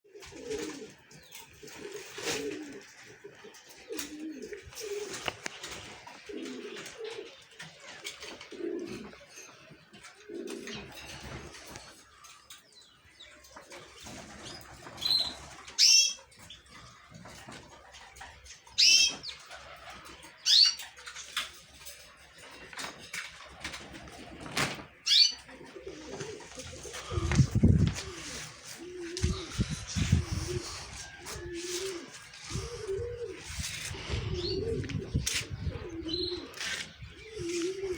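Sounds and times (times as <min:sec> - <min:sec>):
doves cooing: 0:00.1 - 0:37.9.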